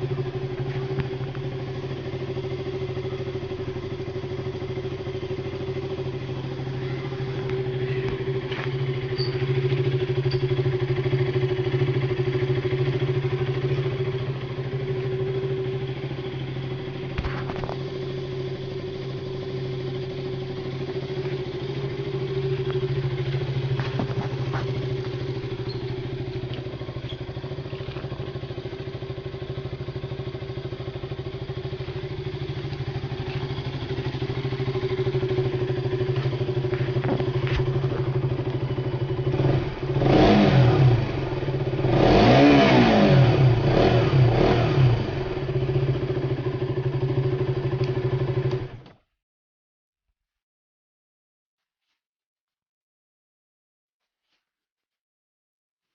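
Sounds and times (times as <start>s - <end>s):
motorcycle engine idling: 0.0s - 49.0s.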